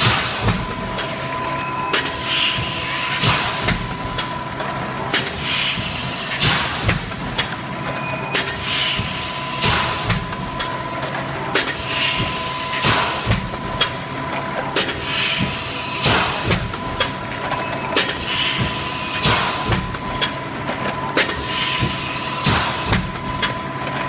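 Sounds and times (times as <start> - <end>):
machine clacks and knocks: 0.0 - 24.0.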